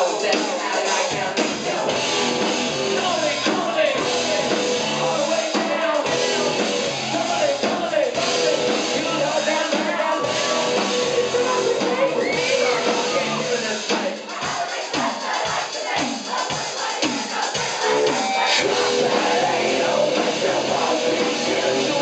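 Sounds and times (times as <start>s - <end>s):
live rock band playing: 0.1s - 14.5s, 15.4s - 22.0s.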